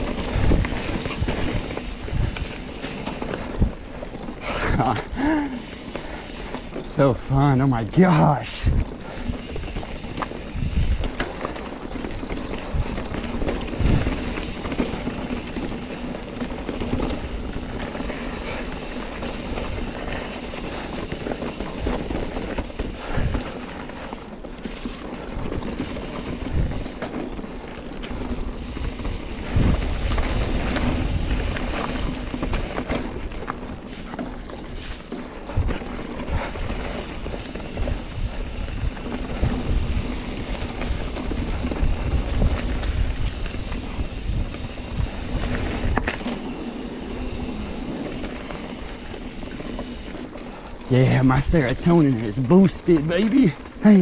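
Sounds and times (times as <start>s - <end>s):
bike tyres rolling over dirt: 0.0s - 54.0s
wind buffeting microphone: 0.0s - 54.0s.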